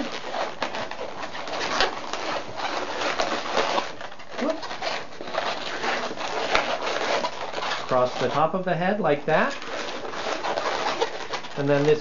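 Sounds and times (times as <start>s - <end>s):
balloons rubbing and squeaking: 0.0s - 12.0s.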